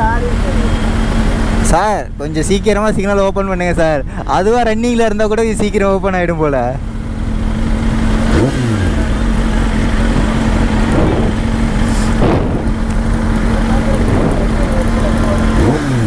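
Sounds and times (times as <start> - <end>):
engines idling: 0.0 - 16.0
vehicles passing by: 0.0 - 16.0.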